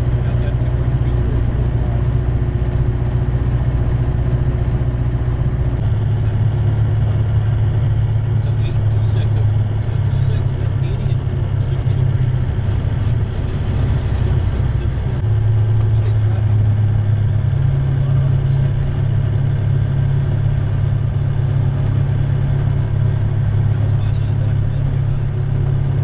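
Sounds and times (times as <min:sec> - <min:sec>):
aircraft engine drone: 0:00.0 - 0:26.0.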